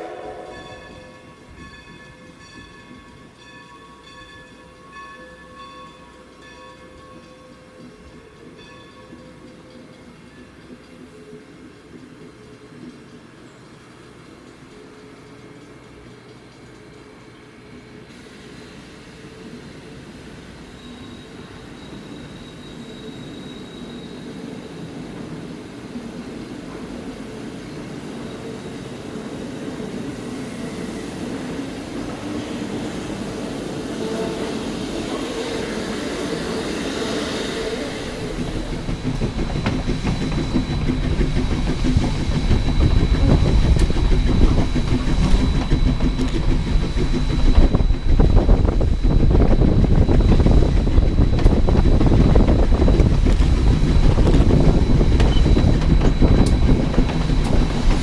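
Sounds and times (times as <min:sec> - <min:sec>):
steam locomotive running: 0:00.0 - 0:58.0.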